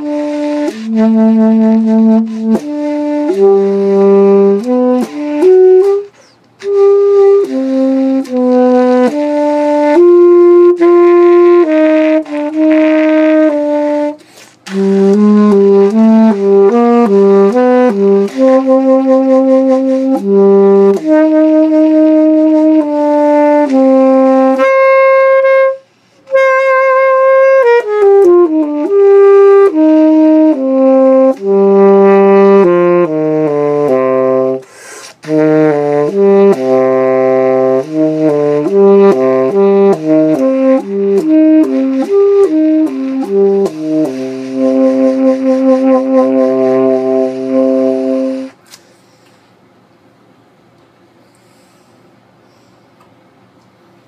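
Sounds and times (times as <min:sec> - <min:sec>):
solo saxophone playing: 0:00.0 - 0:48.6.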